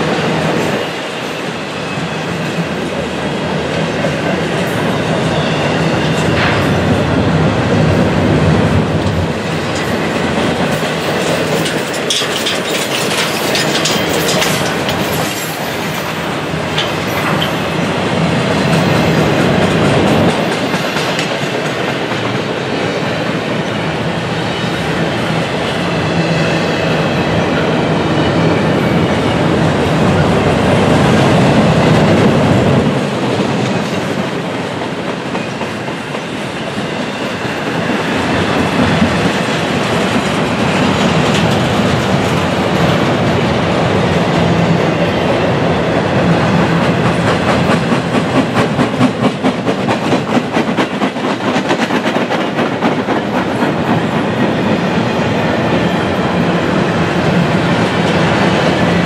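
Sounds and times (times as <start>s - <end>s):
freight train wheels rumbling: 0.0s - 59.0s
train wheels clickety-clack: 0.0s - 59.0s.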